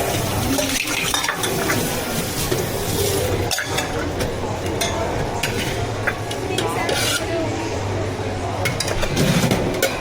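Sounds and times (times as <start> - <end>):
utensils and cups clinking: 0.0 - 7.4, 8.6 - 10.0.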